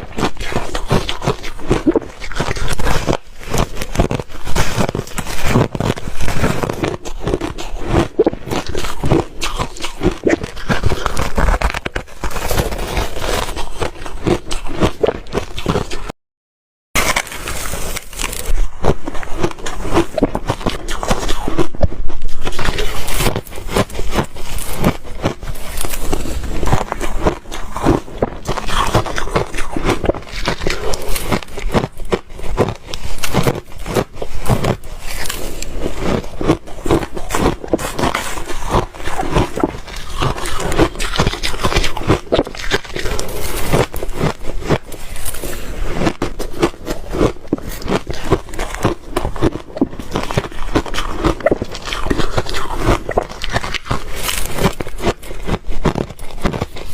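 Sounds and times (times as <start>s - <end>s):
ice being crunched: 0.0s - 16.1s, 17.0s - 56.9s.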